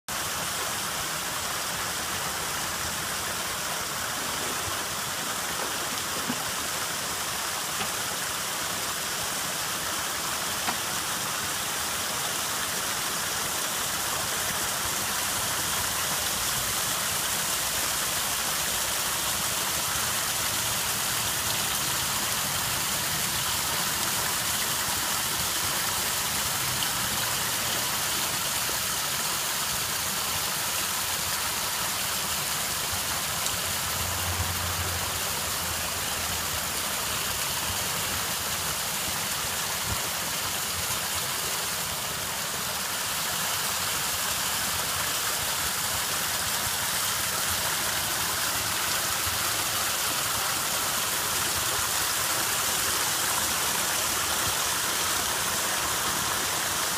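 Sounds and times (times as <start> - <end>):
waterfall splashing over stone: 0.1 - 56.9.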